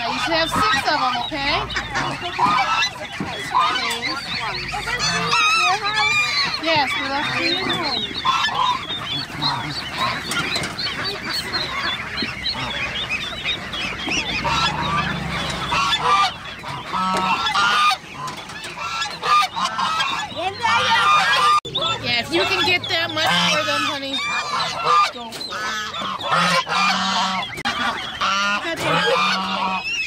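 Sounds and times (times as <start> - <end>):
honking calls: 0.0 - 30.0
poultry chirping and peeping: 0.0 - 30.0.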